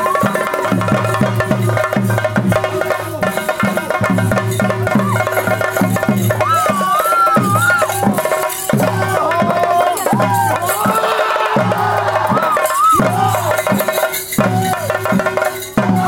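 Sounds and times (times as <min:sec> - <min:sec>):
drums beating steady rhythm: 0:00.0 - 0:16.0
rattling jingling percussion: 0:00.0 - 0:16.0.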